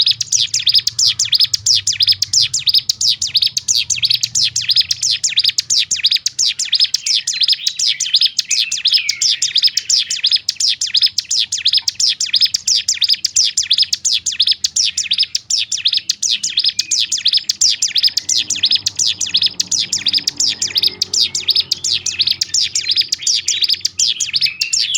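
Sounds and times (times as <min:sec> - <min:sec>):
bird singing rapid sharp notes: 0:00.0 - 0:24.9.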